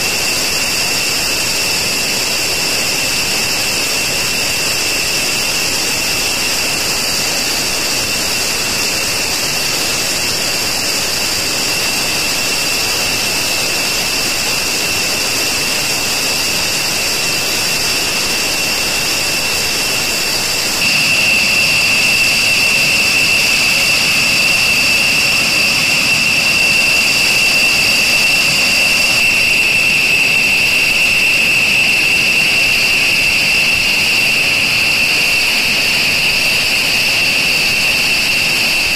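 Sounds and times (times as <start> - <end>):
jet turbine whine: 0.0 - 38.9.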